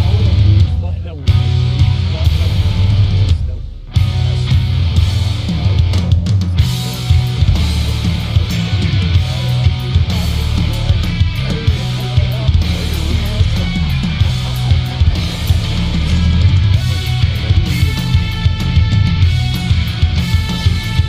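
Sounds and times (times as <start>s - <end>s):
loud rock music: 0.0s - 21.0s.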